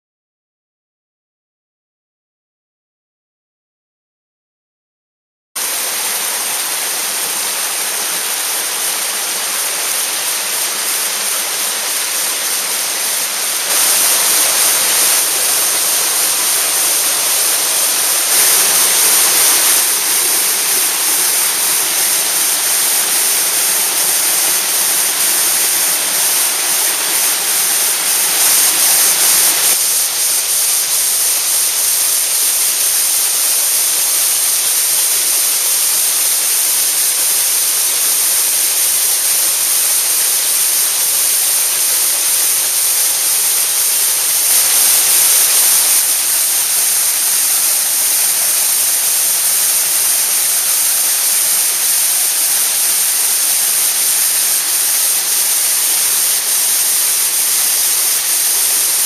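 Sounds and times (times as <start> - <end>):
waterfall rushing: 5.6 - 59.0.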